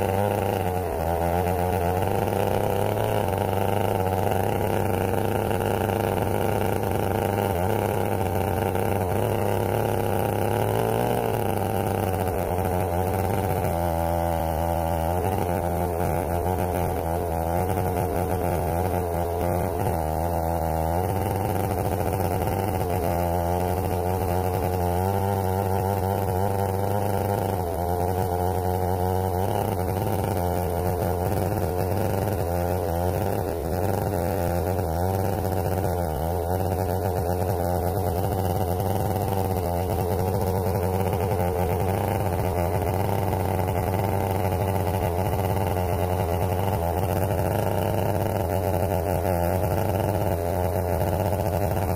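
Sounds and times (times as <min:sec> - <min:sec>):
chainsaw cutting through log: 0:00.0 - 0:51.9.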